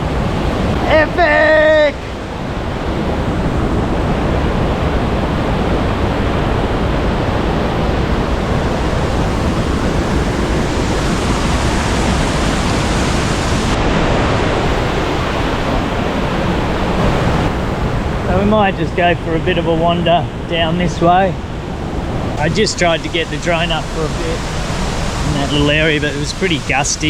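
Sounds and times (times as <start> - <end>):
waterfall rushing: 0.0 - 18.2, 22.4 - 27.0.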